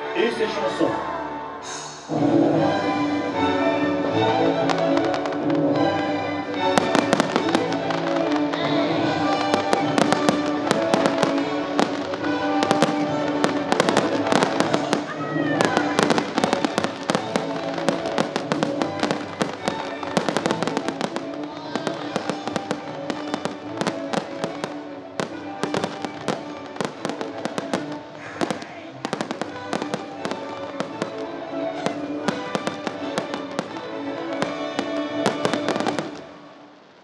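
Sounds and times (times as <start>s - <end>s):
music playing: 0.0s - 37.0s
fireworks bangs and crackles: 2.8s - 37.0s.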